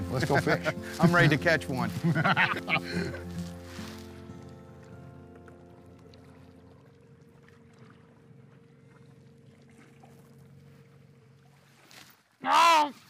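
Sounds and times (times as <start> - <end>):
faint boat motor hum: 0.0 - 13.0
water noise: 0.0 - 13.0.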